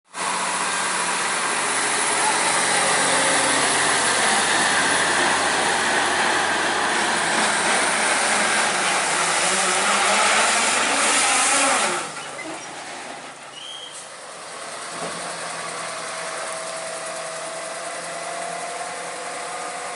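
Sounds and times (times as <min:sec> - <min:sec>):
loud road noise: 0:00.1 - 0:19.9
truck engine under load: 0:00.1 - 0:19.9.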